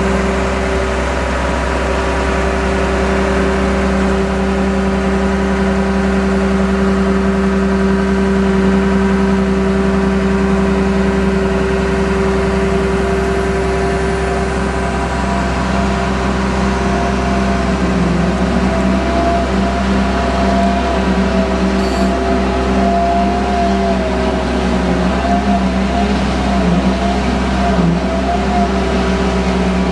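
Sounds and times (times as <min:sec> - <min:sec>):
crane hydraulics working: 0:00.0 - 0:29.9
diesel engine humming: 0:00.0 - 0:29.9
high wavering whine: 0:00.0 - 0:29.9.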